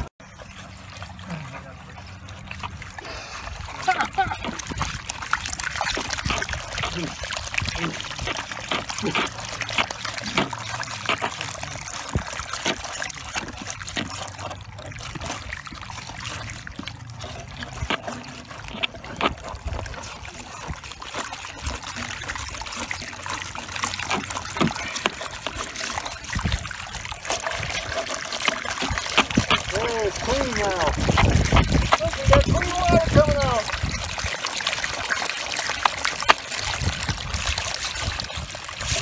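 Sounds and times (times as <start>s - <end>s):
water gushing onto wet gravel: 0.0s - 39.0s.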